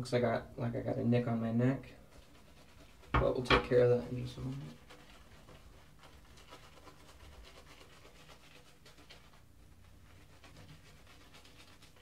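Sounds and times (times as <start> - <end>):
shaving brush swishing: 2.0 - 12.0.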